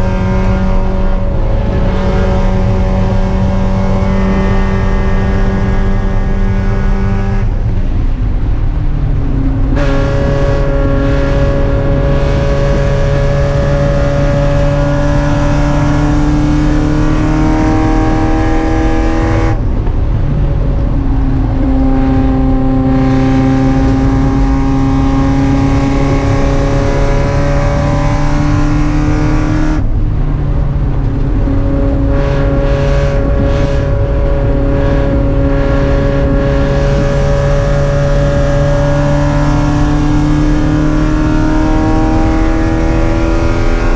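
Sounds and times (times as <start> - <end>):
race car engine running hard: 0.0 - 43.9.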